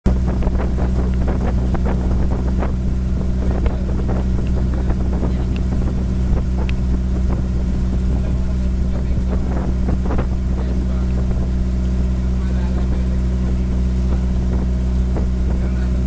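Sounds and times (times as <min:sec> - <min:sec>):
boat engine drone: 0:00.0 - 0:16.0
water splashing against hull: 0:00.1 - 0:16.0
wind buffeting microphone: 0:00.1 - 0:16.0.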